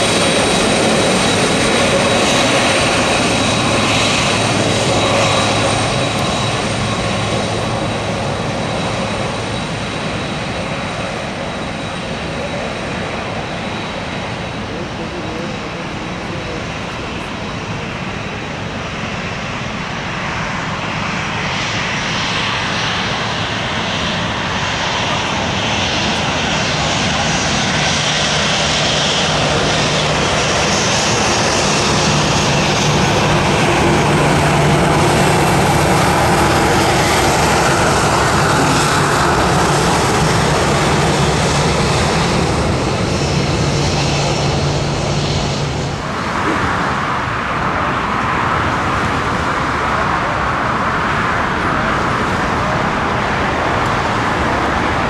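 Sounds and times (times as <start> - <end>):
jet airliner passing close: 0.0 - 55.0.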